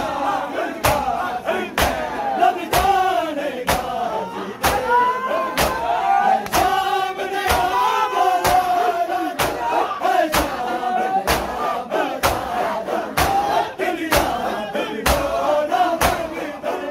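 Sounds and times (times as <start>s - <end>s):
men chanting a lament: 0.0s - 16.9s
hands striking chests in unison: 0.8s - 4.0s, 4.6s - 5.0s, 5.6s - 15.4s, 16.0s - 16.4s.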